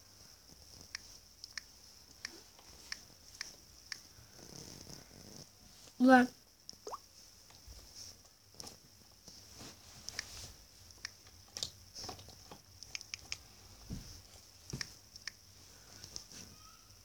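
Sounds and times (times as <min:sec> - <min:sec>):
faint high hiss: 0:00.0 - 0:17.0.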